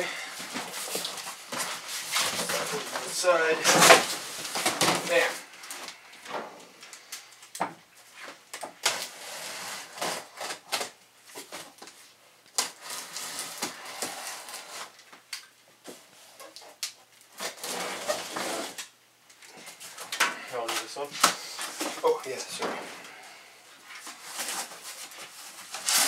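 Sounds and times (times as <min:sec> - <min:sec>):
packing tape rasping: 0:00.0 - 0:06.0, 0:08.5 - 0:15.5, 0:16.4 - 0:22.4, 0:23.9 - 0:26.0.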